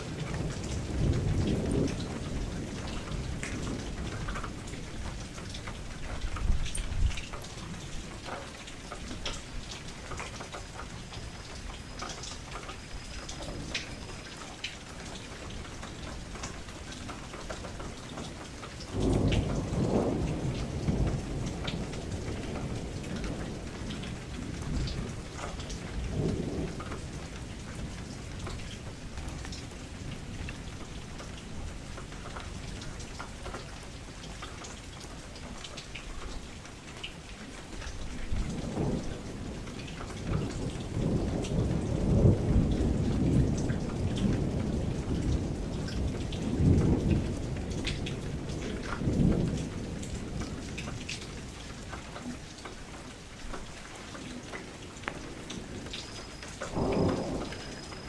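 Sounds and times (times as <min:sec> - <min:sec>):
thunder rumbling: 0:00.0 - 0:08.3, 0:11.2 - 0:31.8, 0:38.2 - 0:51.6, 0:53.7 - 0:58.0
rain against a window: 0:00.0 - 0:58.0.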